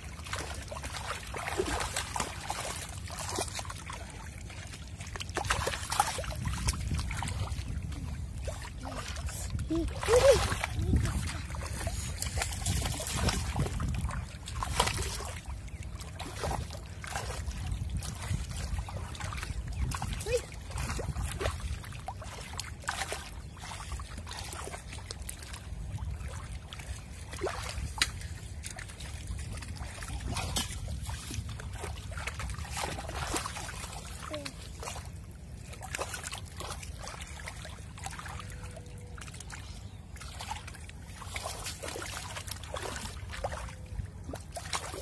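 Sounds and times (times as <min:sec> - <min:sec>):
steady low rumble: 0:00.0 - 0:41.6
shallow water splashing: 0:00.0 - 0:45.0.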